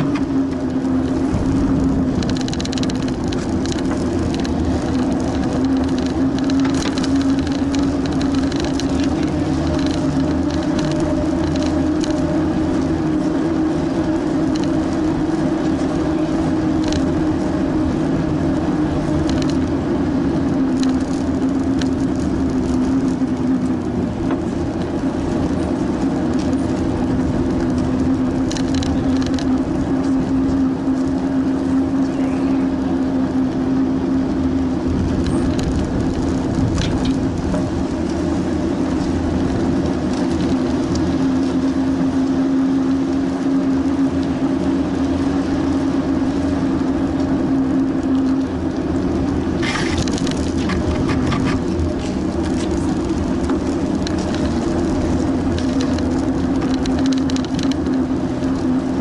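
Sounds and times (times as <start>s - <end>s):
bike rattling over bumps: 0.0s - 32.6s, 34.6s - 42.3s, 47.6s - 59.0s
bicycle tyres rolling on pavement: 0.0s - 59.0s.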